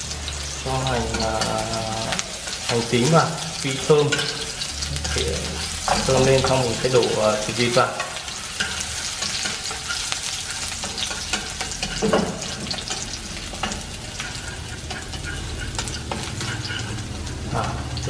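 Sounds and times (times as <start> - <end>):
shallots sizzling in a pan: 0.0 - 18.0
chopsticks stirring: 0.2 - 18.0.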